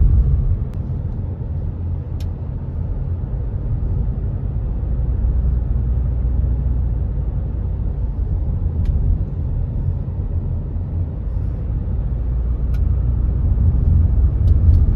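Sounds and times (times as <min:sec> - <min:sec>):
car road and engine rumble: 0:00.0 - 0:14.9.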